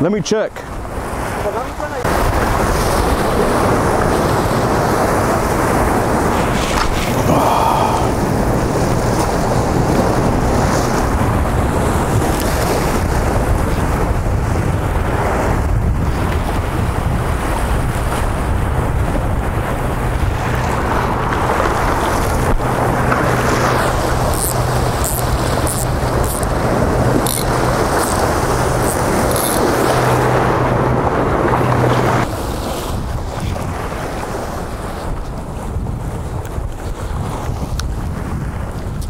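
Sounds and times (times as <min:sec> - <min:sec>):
ocean surf against jetty: 0:00.0 - 0:39.0
wind buffeting microphone: 0:00.5 - 0:39.0.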